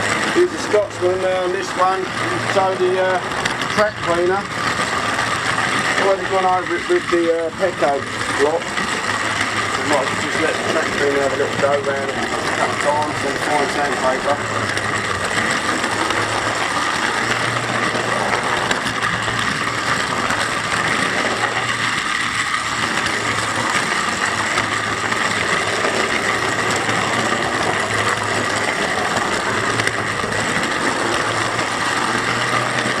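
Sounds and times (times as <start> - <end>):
electric motor and gears whirring: 0.0 - 33.0
low hum: 0.0 - 33.0
wheels clattering on rails: 0.0 - 33.0.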